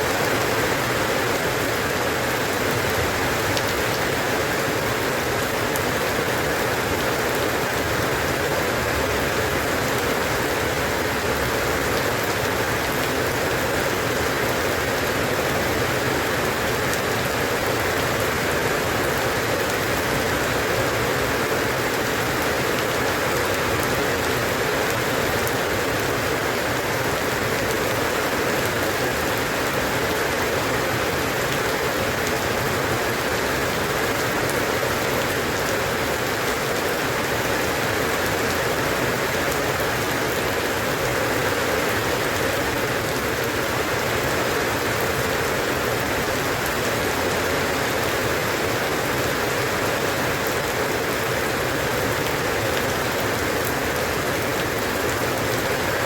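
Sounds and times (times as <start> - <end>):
rain pattering on surface: 0.0 - 56.0.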